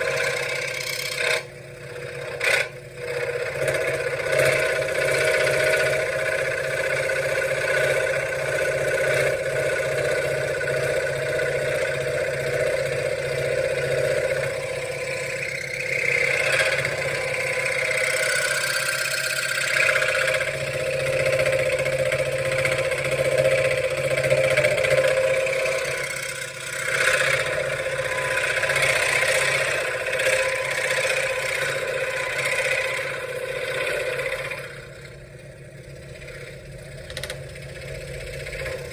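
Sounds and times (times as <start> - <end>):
saw blade rasping through wood: 0.0 - 35.2
scroll saw motor hum: 0.0 - 38.9.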